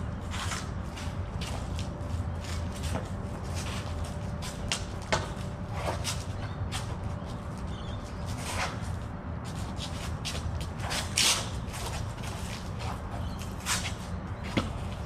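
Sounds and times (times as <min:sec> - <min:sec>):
quick footwork scuffs: 0:00.0 - 0:15.0.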